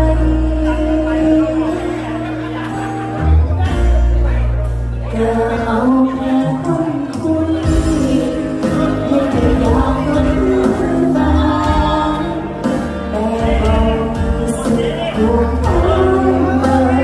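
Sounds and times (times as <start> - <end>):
woman singing into microphone: 0.0 - 2.7, 4.9 - 17.0
backing music with bass: 0.0 - 17.0.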